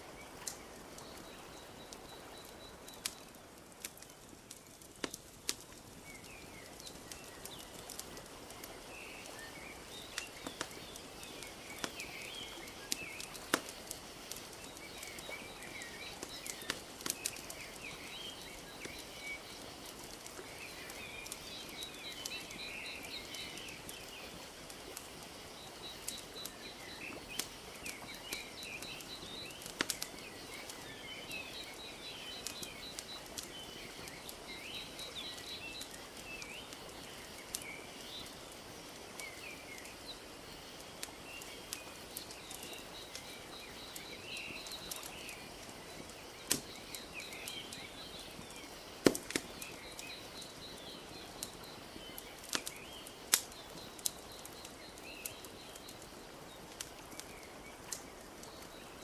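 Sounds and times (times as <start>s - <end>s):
small birds chirping: 0.0s - 59.0s
wood fire crackling: 0.0s - 59.0s.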